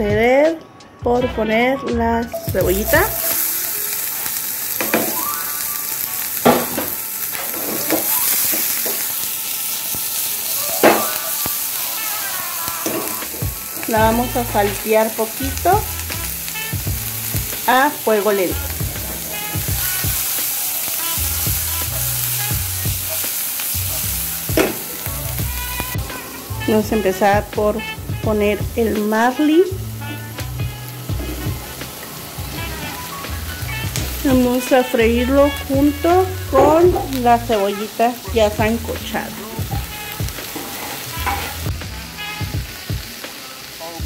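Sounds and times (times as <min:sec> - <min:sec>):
onions sizzling in hot oil: 0:02.3 - 0:44.0.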